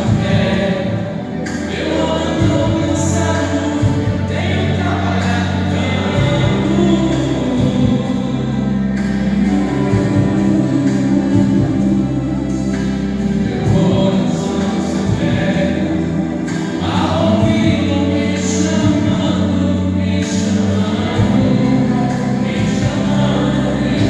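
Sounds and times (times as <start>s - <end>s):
group singing gospel song: 0.0s - 24.0s
instrumental backing: 0.0s - 24.0s.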